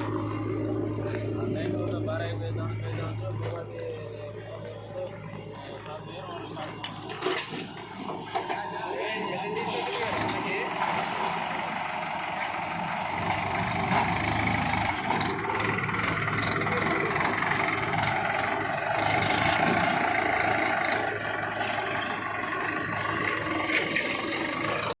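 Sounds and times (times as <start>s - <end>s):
diesel machinery engine running: 0.0s - 25.0s.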